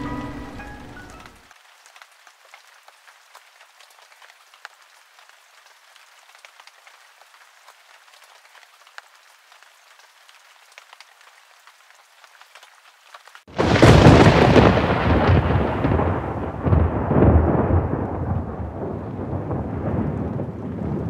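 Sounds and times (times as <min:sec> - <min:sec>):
rain pattering: 0:00.0 - 0:21.0.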